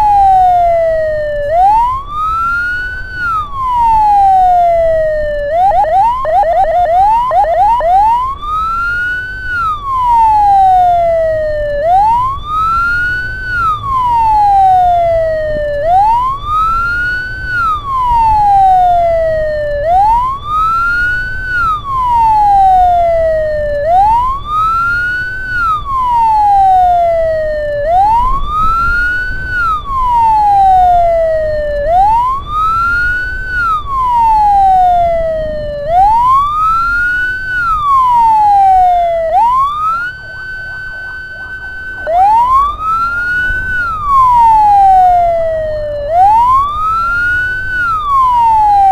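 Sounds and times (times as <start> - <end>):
ambulance siren: 0.0 - 48.9
low vehicle rumble: 0.0 - 48.9.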